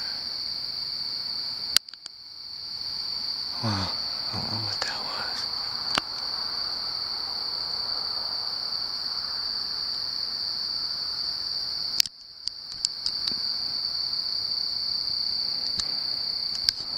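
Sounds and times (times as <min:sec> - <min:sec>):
crickets chirring: 0:00.0 - 0:16.9.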